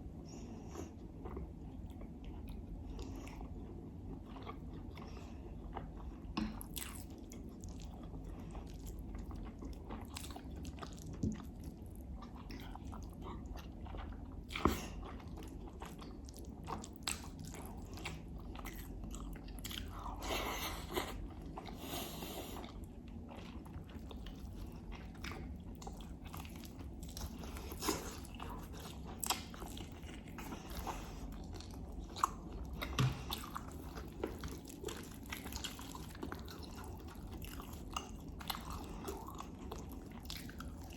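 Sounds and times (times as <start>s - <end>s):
chewing and wet mouth sounds: 0.1s - 40.9s.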